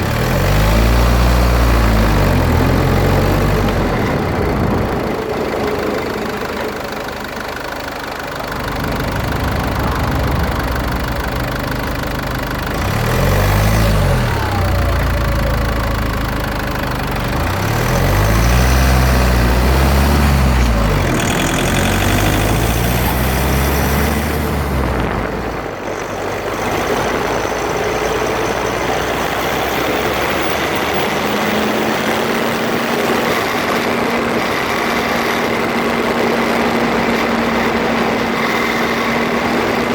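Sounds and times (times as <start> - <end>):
drivetrain and road noise: 0.0 - 39.9
low-pitched rising and falling tones: 0.7 - 39.9.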